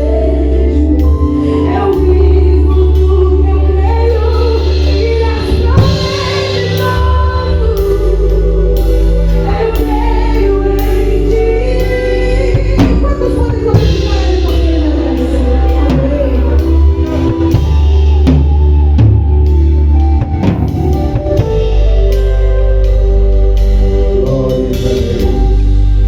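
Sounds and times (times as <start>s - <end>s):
person singing: 0.0s - 26.0s
sustained low notes: 0.0s - 26.0s.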